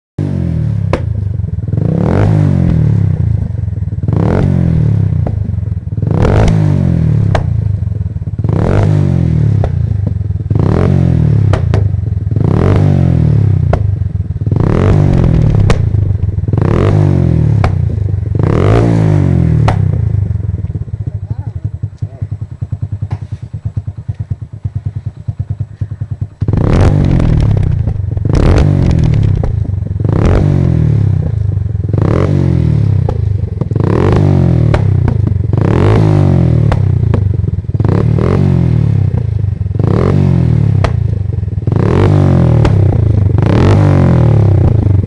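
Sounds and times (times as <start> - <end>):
motorcycle engine idling and revving: 0.2 - 45.0.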